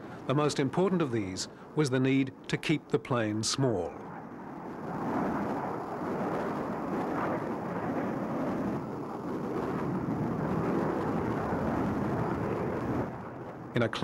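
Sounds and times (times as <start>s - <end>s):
jet aircraft engine rushing: 0.0s - 14.0s.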